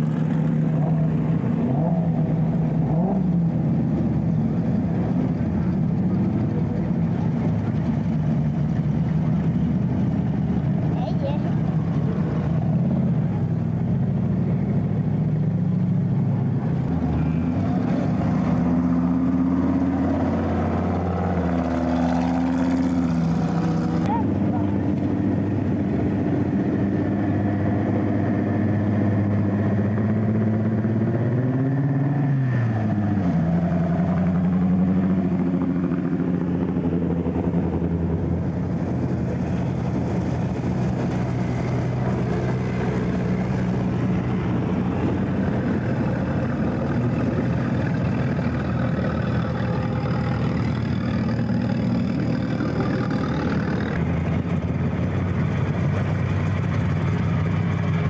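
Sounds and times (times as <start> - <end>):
car engine idling: 0.0 - 31.2, 31.9 - 58.0
engine revving: 0.0 - 58.0.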